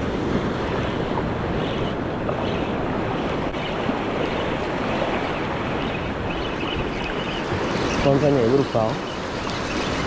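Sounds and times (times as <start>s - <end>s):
small surf waves on sand: 0.0s - 10.0s
wind noise on microphone: 0.0s - 10.0s.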